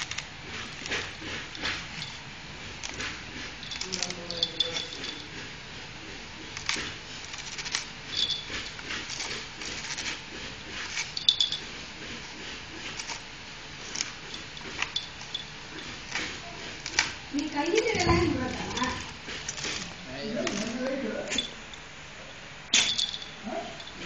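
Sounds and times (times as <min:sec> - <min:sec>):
dog gnawing coconut husk: 0:00.0 - 0:21.9.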